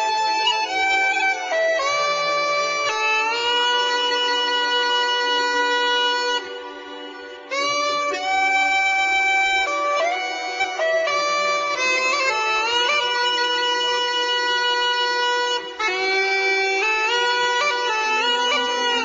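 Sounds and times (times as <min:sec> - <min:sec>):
bagpipe melody over drone: 0:00.0 - 0:19.0.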